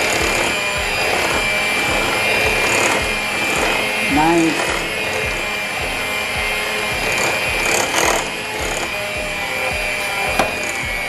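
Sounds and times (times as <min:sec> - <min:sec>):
electric hand mixer whining: 0:00.0 - 0:11.0.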